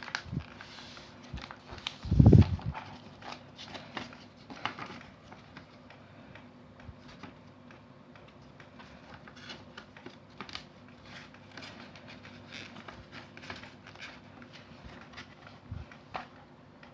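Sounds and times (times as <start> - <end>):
paper rustling and crinkling: 0.0 - 16.9.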